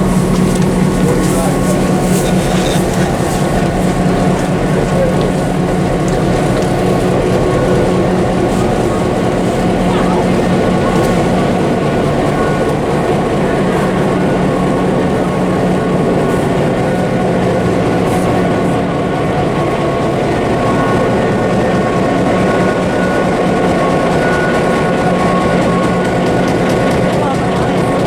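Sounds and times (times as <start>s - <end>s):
diesel locomotive droning: 0.0s - 28.0s.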